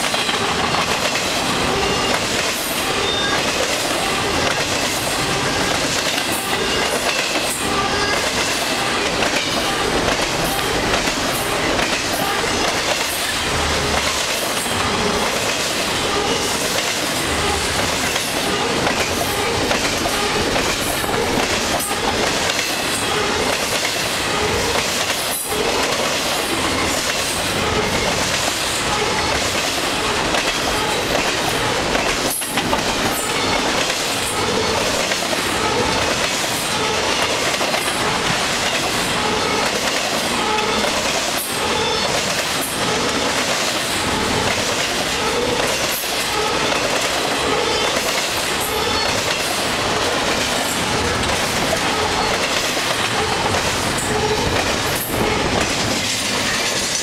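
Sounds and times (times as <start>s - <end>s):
freight train rumble and clatter: 0.0s - 57.0s.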